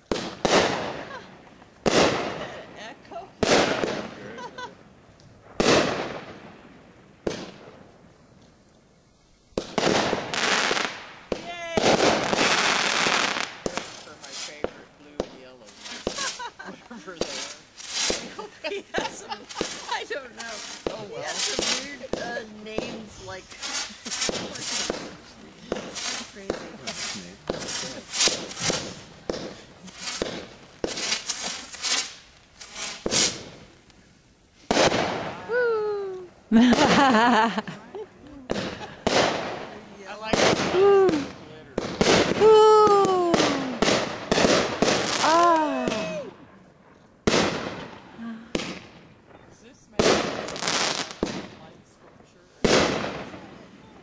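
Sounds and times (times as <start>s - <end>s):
crackling hiss: 0.0s - 54.0s
fireworks bangs: 0.0s - 54.0s.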